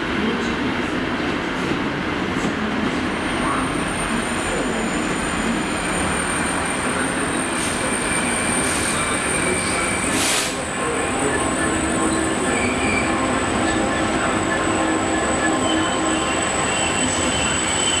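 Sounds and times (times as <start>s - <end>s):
diesel locomotive engine: 0.0s - 18.0s.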